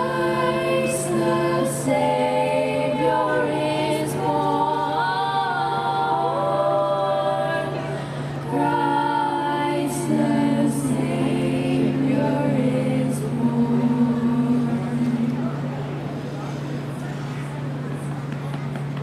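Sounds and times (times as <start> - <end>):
choir singing in harmony: 0.0 - 16.1
steady low hum: 0.0 - 19.0.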